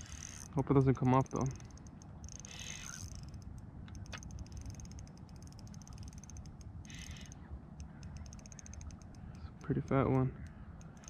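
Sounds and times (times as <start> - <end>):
fishing reel ticking: 0.0 - 11.0.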